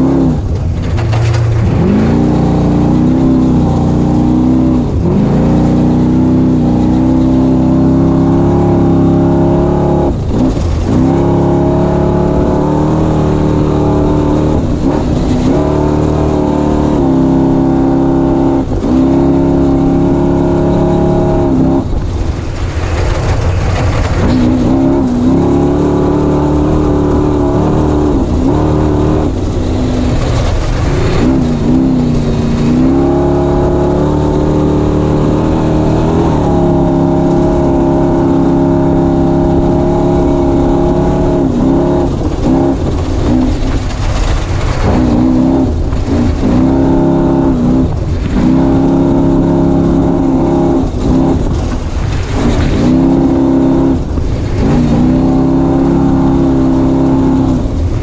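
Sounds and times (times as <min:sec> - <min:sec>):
race vehicle engine running hard: 0:00.0 - 0:58.0
rumble of wind and terrain: 0:00.0 - 0:58.0.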